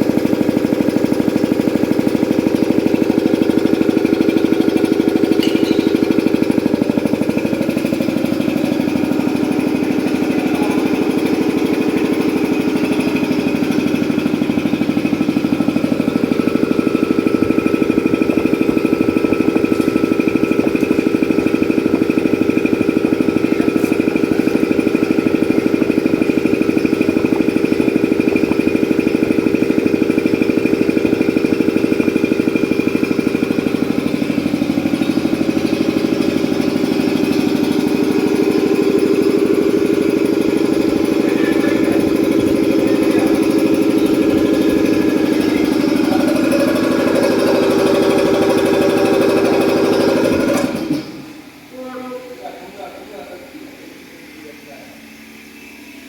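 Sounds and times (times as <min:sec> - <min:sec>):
piston air compressor running: 0:00.0 - 0:56.0.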